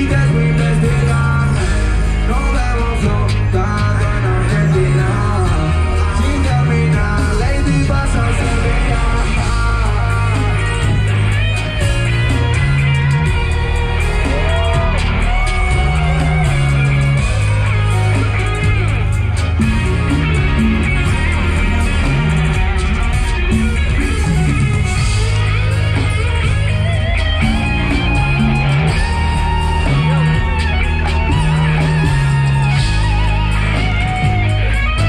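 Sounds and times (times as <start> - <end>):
electric guitar melody with bent notes: 0.0 - 35.0
live band music: 0.0 - 35.0
stepping bass line: 0.0 - 35.0.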